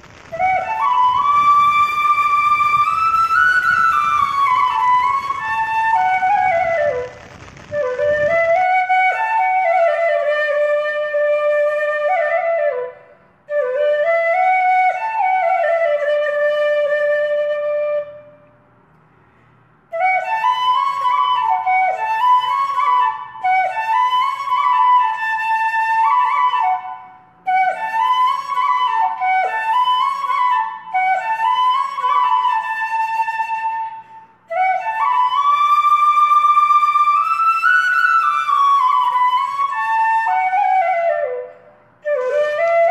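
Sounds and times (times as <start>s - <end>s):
solo flute melody: 0.0s - 18.5s, 19.9s - 42.9s.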